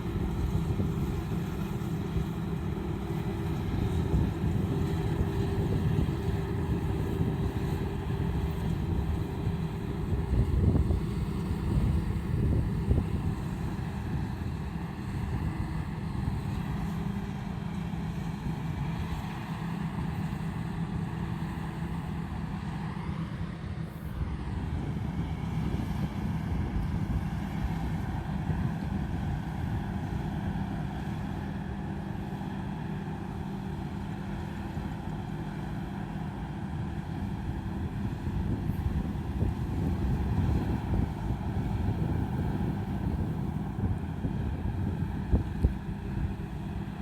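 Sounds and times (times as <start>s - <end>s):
combine harvester drone: 0.0s - 47.0s.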